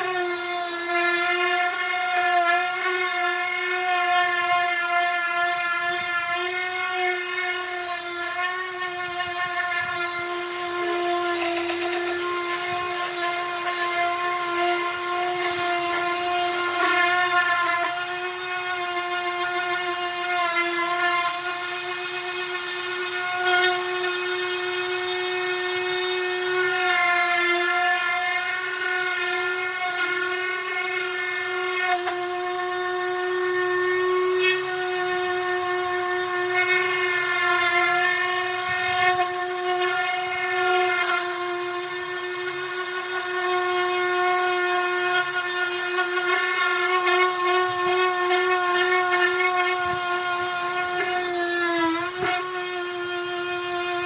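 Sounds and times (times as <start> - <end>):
power sander on wood: 0.0 - 54.0.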